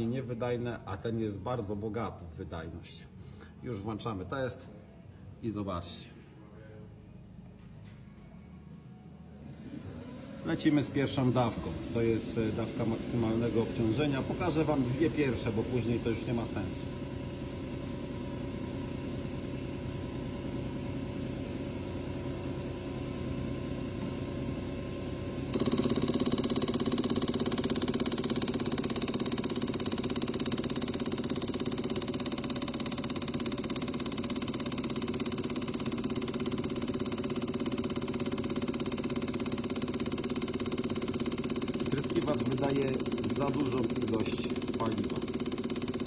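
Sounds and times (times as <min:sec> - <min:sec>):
test bench machine drone: 0:07.5 - 0:46.0.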